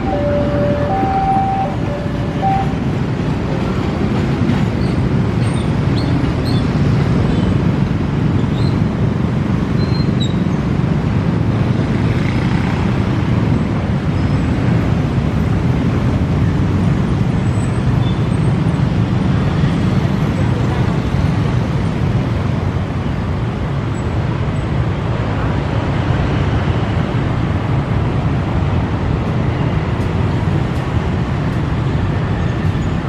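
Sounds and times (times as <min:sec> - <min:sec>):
train rumbling along track: 0:00.0 - 0:33.0.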